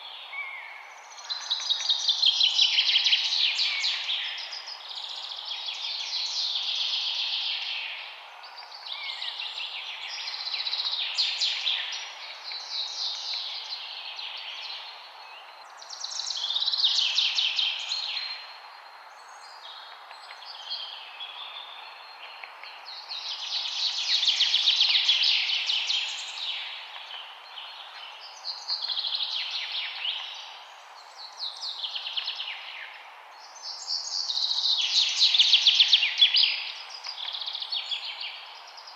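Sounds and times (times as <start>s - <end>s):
background hiss: 0.0s - 38.9s
songbirds chirping and trilling: 0.0s - 38.9s.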